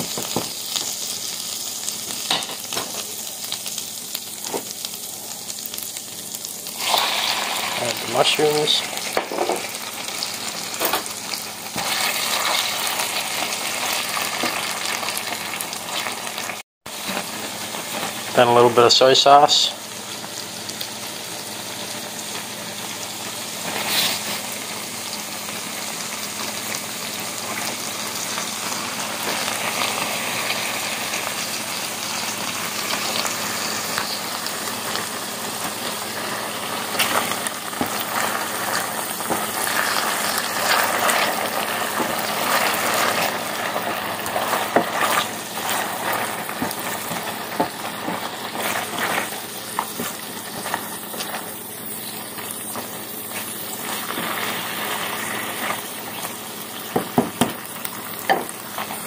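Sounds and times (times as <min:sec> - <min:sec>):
mushrooms sizzling in pan: 0:00.0 - 0:59.0.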